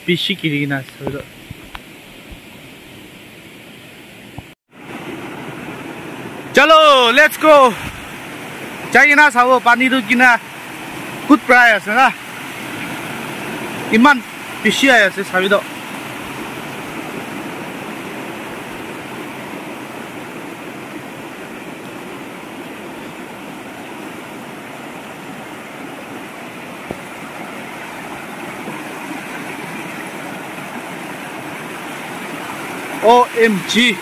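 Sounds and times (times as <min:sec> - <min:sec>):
stream rushing over rocks: 0:04.8 - 0:34.0.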